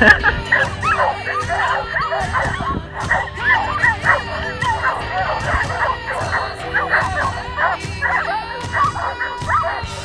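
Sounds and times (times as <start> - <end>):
sled dogs yelping and whining: 0.0 - 10.0.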